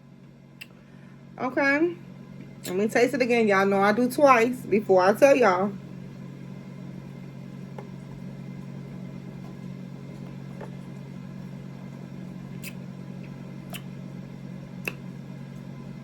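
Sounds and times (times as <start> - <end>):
air fryer humming: 0.0 - 16.0.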